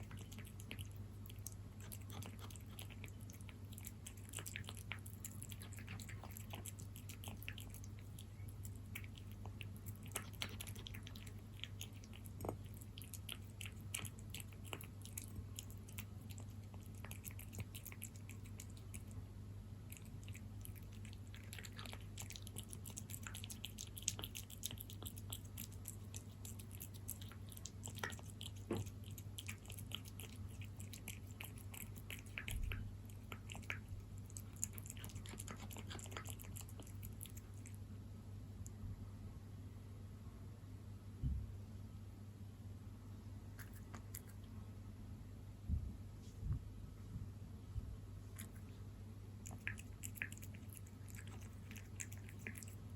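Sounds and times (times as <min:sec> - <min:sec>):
cat eating wet food: 0:00.0 - 0:38.9, 0:43.4 - 0:45.4, 0:48.1 - 0:52.9.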